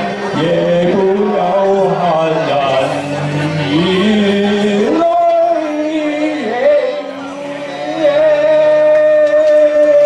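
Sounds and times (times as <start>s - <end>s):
backing music: 0.0s - 10.0s
men singing through pa: 0.1s - 10.0s.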